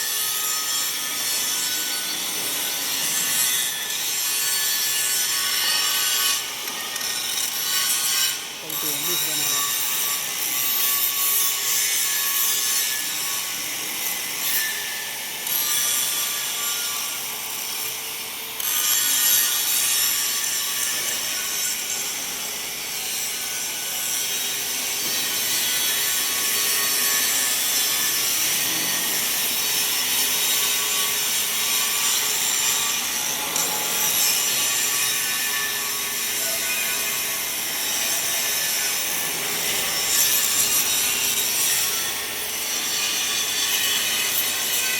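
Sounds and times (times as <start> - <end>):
angle grinder grinding metal: 0.0 - 44.9.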